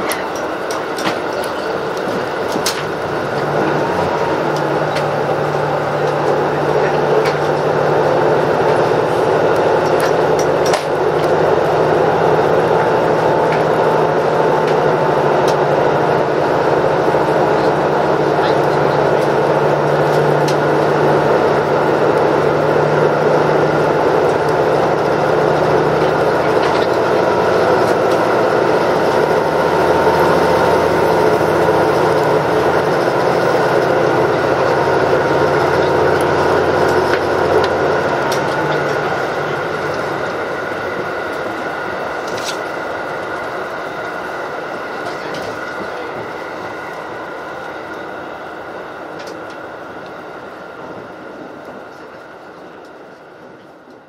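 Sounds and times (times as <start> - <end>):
diesel engine drone: 0.0 - 54.0
wheels rumbling on rail: 0.0 - 54.0.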